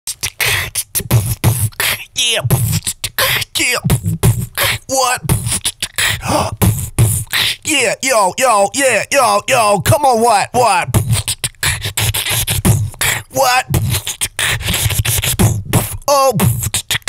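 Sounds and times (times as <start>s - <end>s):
beatboxing beat: 0.1s - 17.0s
sliding vocal tones: 0.1s - 17.0s.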